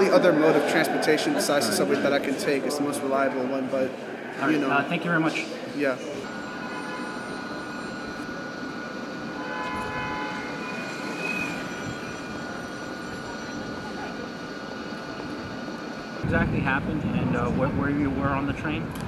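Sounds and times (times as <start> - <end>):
city ambience: 0.0 - 19.0
mechanical whine: 0.0 - 19.0.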